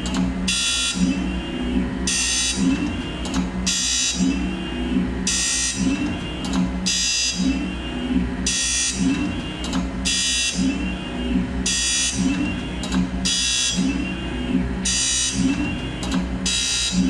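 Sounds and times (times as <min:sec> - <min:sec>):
low mechanical sound: 0:00.0 - 0:17.0
motor hum: 0:00.0 - 0:17.0.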